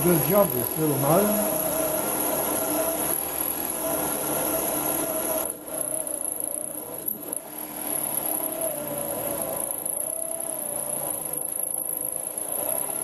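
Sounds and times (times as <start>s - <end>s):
drill motor whining through metal: 0.0s - 13.0s.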